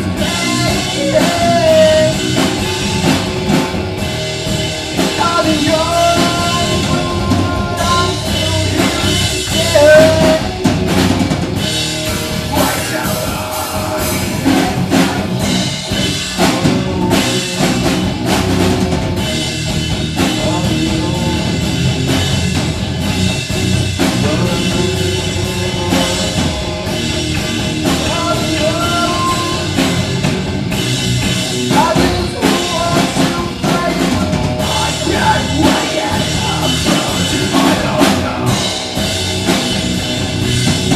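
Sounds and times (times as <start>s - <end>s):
drum kit beat: 0.0s - 40.9s
live rock band: 0.0s - 40.9s.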